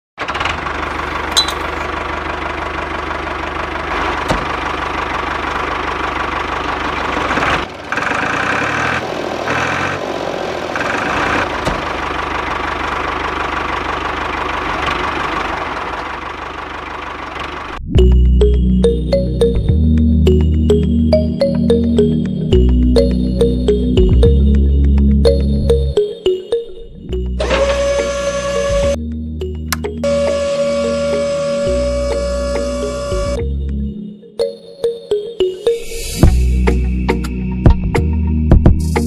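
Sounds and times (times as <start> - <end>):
tractor engine running: 0.2 - 34.0.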